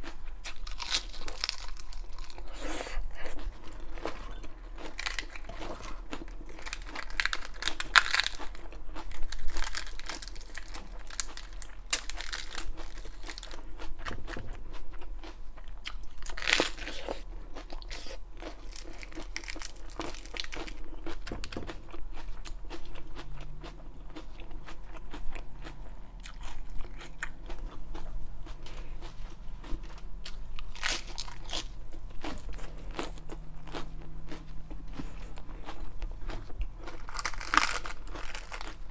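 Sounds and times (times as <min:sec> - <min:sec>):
lettuce crunching being chewed: 0:00.0 - 0:38.9.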